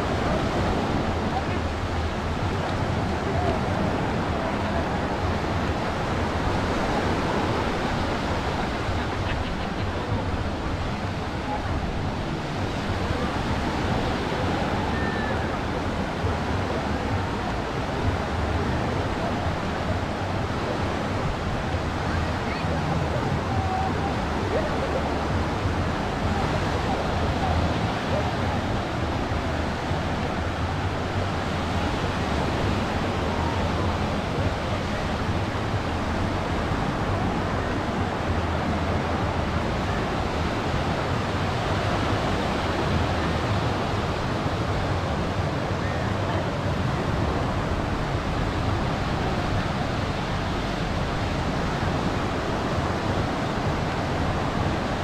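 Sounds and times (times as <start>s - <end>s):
ocean surf on sandy beach: 0.0s - 55.0s.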